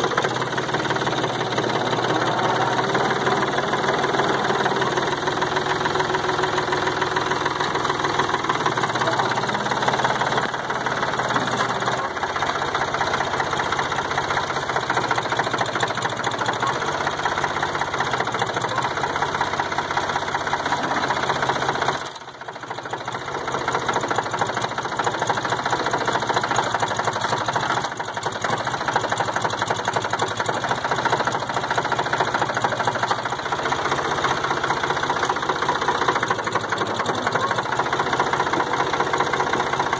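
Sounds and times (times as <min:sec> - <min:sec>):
tractor engine clattering: 0:00.0 - 0:39.9.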